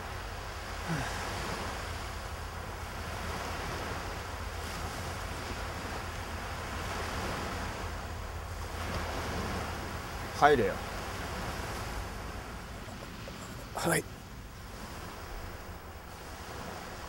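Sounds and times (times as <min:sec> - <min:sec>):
waves washing onto shore: 0:00.0 - 0:17.0
wind rumble on microphone: 0:00.0 - 0:17.0.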